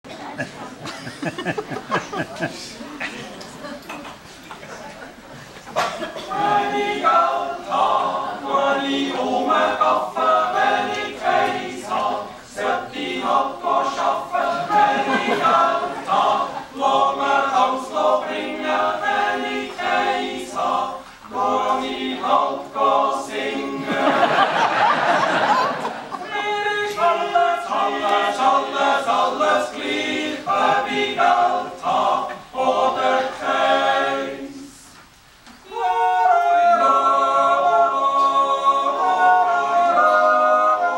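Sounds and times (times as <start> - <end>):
male choir yodeling a cappella: 5.9 - 35.0, 35.6 - 40.9.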